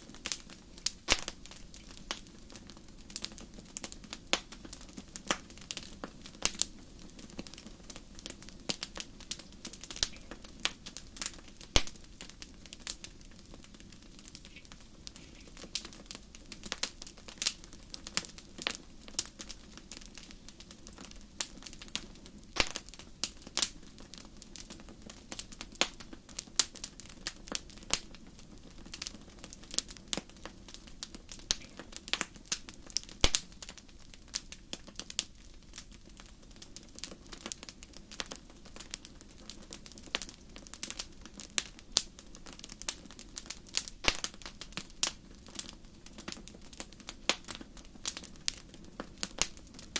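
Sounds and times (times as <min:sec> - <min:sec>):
faint rush of flame: 0:00.0 - 0:49.9
wood fire crackling and popping: 0:00.0 - 0:49.9.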